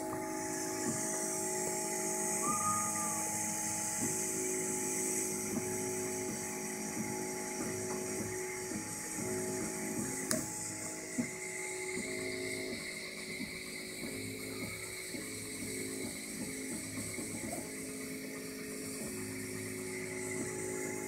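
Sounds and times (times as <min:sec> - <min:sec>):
fans hissing: 0:00.0 - 0:21.0
stepper motors whining: 0:00.0 - 0:21.0.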